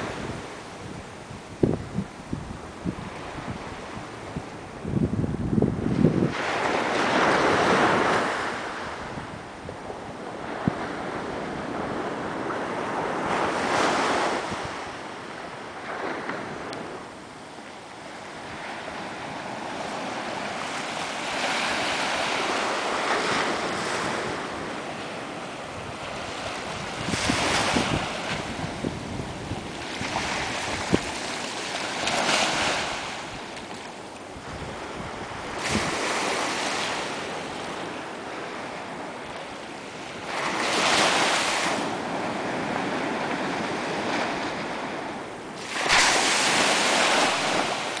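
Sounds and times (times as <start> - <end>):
waves washing on sandy beach: 0.0 - 48.0
wind rumbling on microphone: 0.0 - 48.0.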